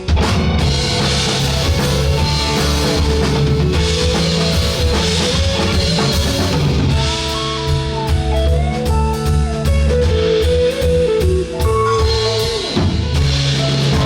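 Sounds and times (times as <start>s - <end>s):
bass guitar: 0.0s - 14.0s
drum kit: 0.0s - 14.0s
guitar: 0.0s - 14.0s
held melody line: 0.1s - 14.0s.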